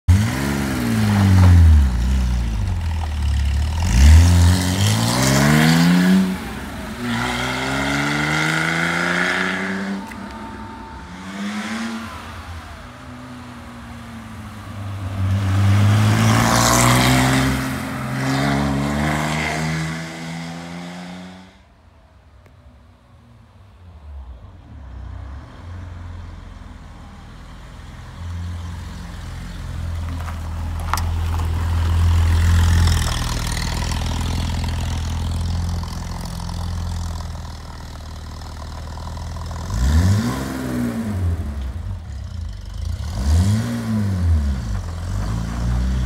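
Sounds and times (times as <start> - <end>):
car engine accelerating hard: 0.1 - 21.6, 30.0 - 46.0.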